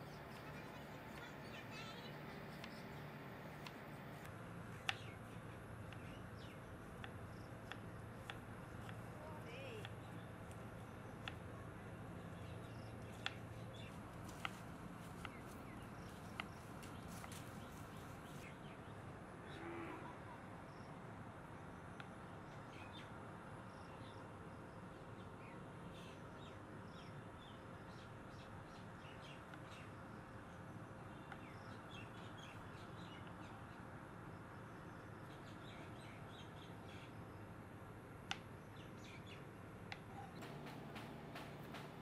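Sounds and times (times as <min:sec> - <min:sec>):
birds chirping: 0:00.0 - 0:33.8, 0:38.5 - 0:42.0.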